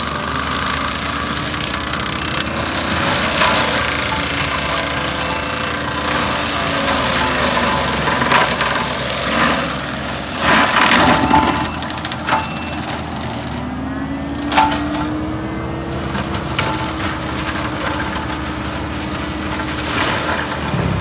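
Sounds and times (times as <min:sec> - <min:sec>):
diesel engine under load: 0:00.0 - 0:21.0
mulcher grinding brush: 0:00.0 - 0:21.0
wood cracking and splintering: 0:00.0 - 0:21.0.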